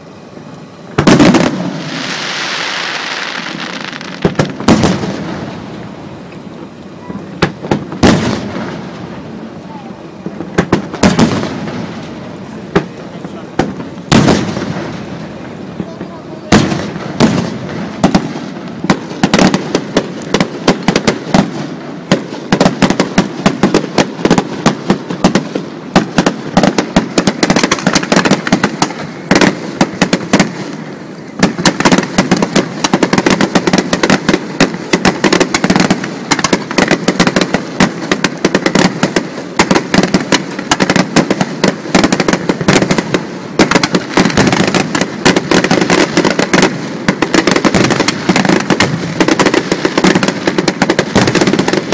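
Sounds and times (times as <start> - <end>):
fireworks bursts and bangs: 0.9 - 51.9.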